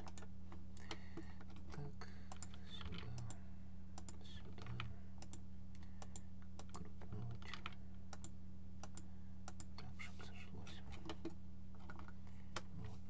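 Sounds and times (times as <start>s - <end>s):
keyboard and mouse clicks: 0.0s - 3.4s, 4.0s - 9.9s, 10.9s - 12.7s
low electrical hum: 0.0s - 13.0s.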